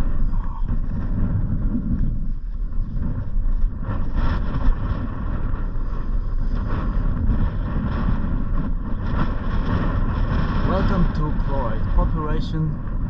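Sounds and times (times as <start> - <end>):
vehicle engine and road rumble: 0.0 - 13.0
wind: 0.0 - 13.0.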